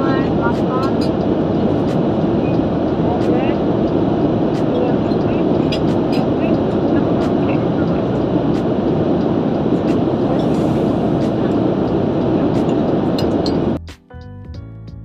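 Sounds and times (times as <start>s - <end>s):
aircraft cabin rush: 0.0s - 13.8s.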